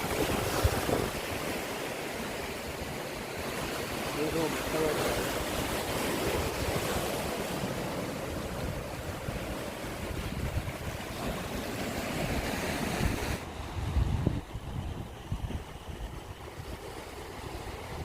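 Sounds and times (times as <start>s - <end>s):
wind buffeting microphone: 0.0s - 1.7s, 5.2s - 18.0s
sea waves washing: 0.0s - 18.0s.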